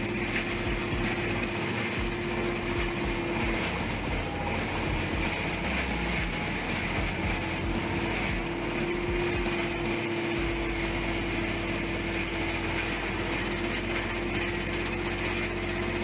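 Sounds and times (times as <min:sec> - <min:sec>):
wood chipper running: 0:00.0 - 0:16.0.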